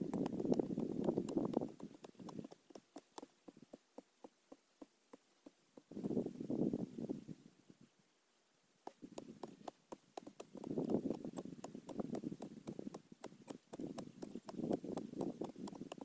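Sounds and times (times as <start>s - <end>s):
hoes chopping into dry soil: 0.0s - 6.0s, 8.8s - 16.0s.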